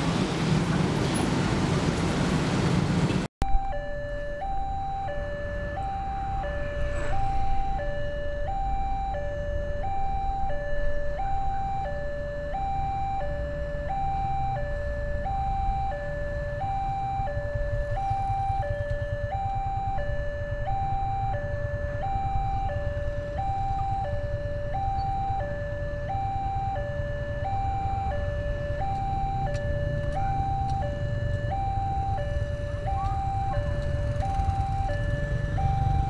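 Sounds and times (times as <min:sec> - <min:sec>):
road traffic: 0:00.0 - 0:36.0
level crossing two-tone alarm: 0:03.4 - 0:36.0.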